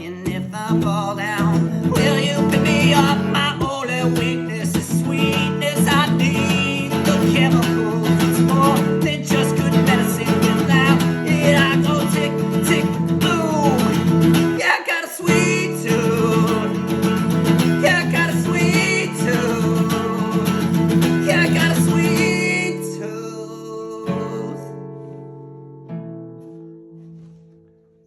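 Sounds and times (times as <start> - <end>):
guitar-led music: 0.0 - 28.0.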